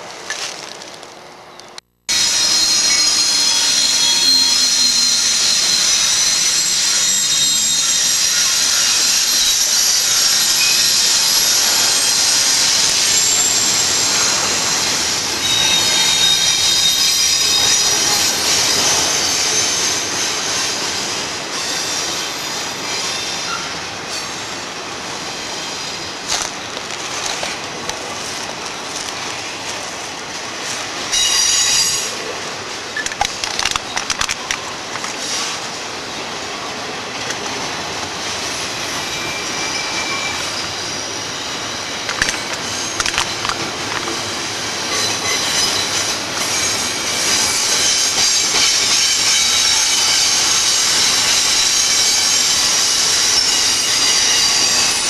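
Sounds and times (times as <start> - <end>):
rumble and rattle of rail cars: 0.0 - 55.0
train wheels squealing: 2.1 - 27.2, 30.6 - 33.1, 37.6 - 55.0.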